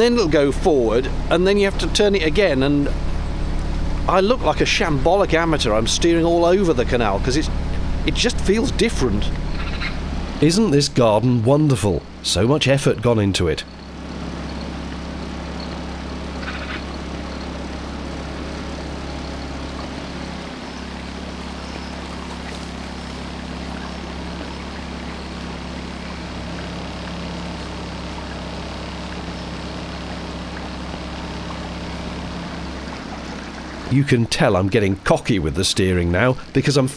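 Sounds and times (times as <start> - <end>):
outboard motor running: 0.0 - 36.9.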